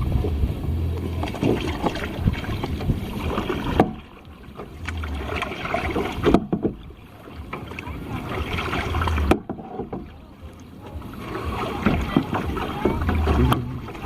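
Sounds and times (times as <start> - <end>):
paddle splashing water: 0.0 - 14.0
wind on microphone: 0.0 - 14.0.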